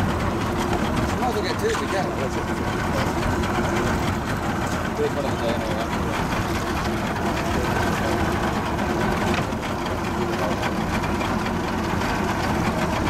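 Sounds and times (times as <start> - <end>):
outboard motors running: 0.0 - 13.0.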